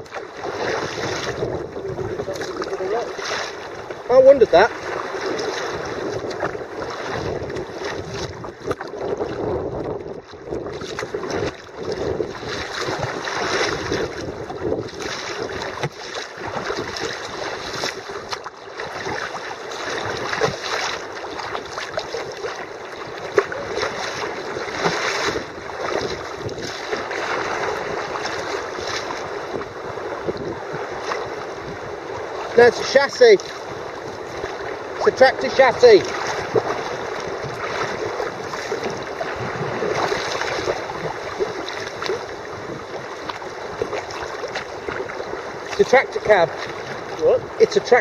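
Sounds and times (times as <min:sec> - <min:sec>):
paddle splashing into water: 0:00.0 - 0:48.0
water washing along hull: 0:00.0 - 0:48.0.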